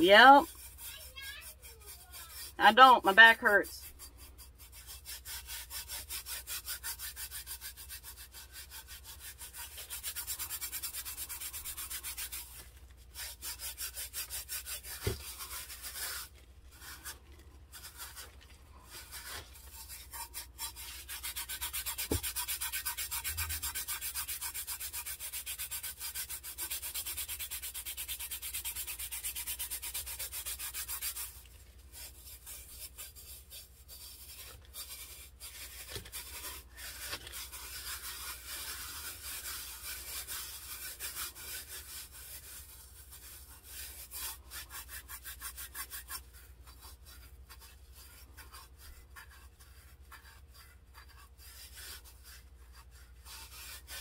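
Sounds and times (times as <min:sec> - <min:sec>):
gloved hand rubbing tumbler: 0:00.0 - 0:54.0.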